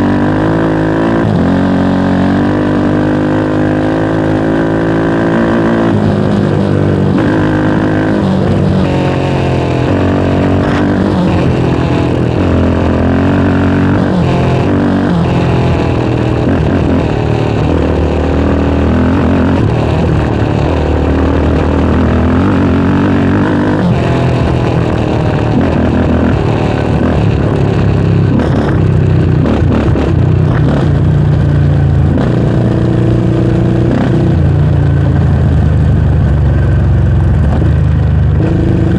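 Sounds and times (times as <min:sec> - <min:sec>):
four-stroke engine revving: 0:00.0 - 0:35.2, 0:37.4 - 0:38.9.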